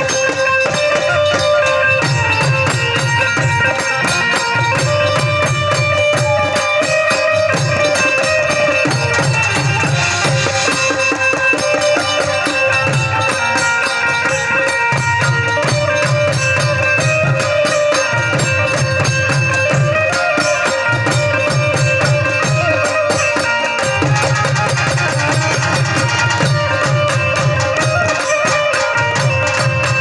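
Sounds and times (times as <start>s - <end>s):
jingling percussion: 0.0s - 30.0s.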